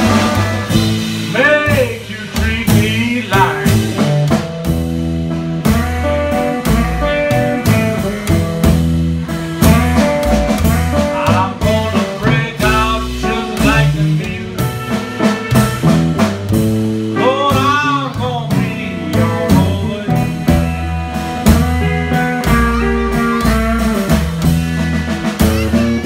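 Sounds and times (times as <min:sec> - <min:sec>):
blues guitar bent notes: 0:00.0 - 0:26.0
upright bass plucking: 0:00.0 - 0:26.0.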